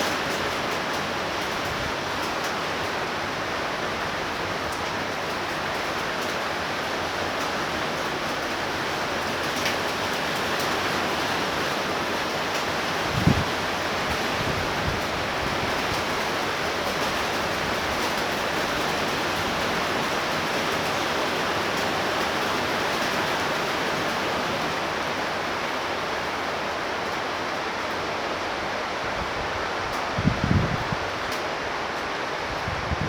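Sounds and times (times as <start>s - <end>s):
torrential rain pouring: 0.0s - 33.0s.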